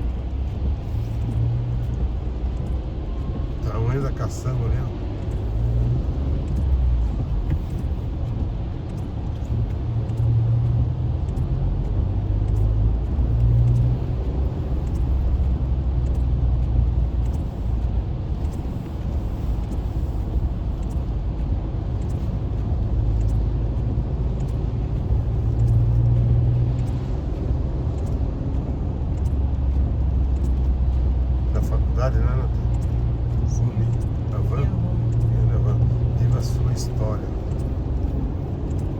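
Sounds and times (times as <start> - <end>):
car engine and road rumble: 0.0 - 38.9
faint ticks: 0.0 - 38.9.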